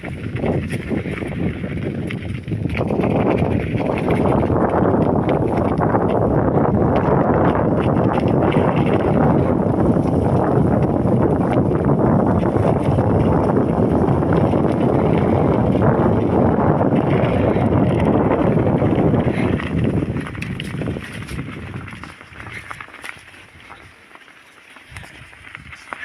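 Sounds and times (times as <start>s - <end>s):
wind buffeting microphone: 0.0s - 24.1s, 24.8s - 26.0s.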